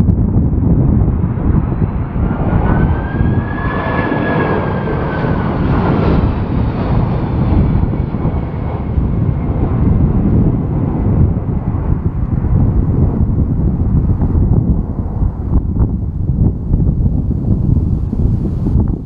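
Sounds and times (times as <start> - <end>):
jet engines rumbling with fan whine: 0.0 - 19.0
wind buffeting microphone: 0.0 - 19.0.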